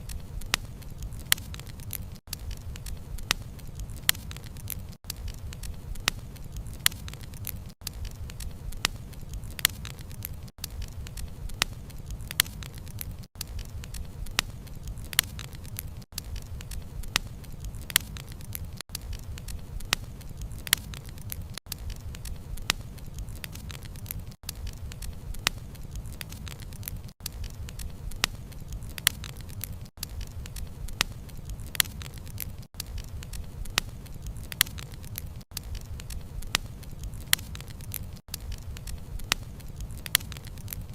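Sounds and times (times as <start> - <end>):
sharp pops of burning wood: 0.0 - 40.9
wood fire crackling: 0.0 - 40.9.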